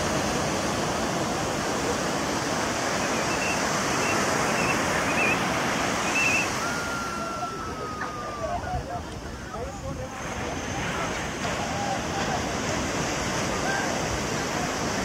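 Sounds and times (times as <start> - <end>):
waves breaking in shallows: 0.0 - 15.0.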